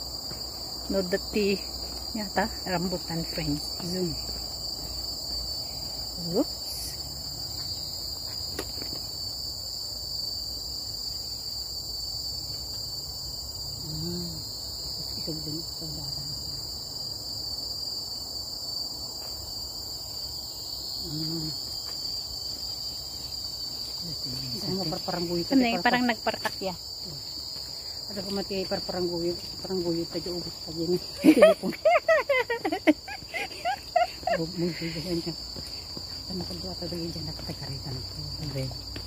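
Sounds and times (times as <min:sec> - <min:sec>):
shrill insect chorus: 0:00.0 - 0:39.0.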